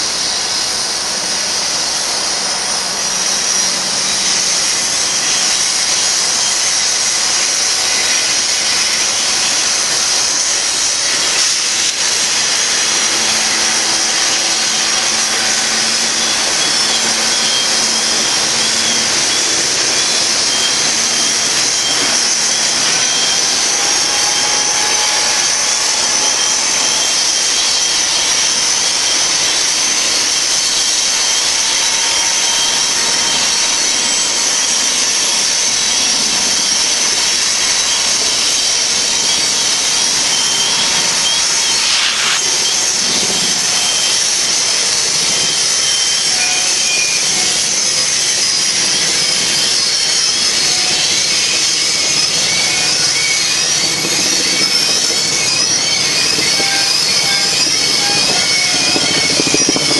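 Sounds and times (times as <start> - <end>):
steel wheels grinding on rail: 0.0 - 59.9
wheel squeals: 0.0 - 59.9.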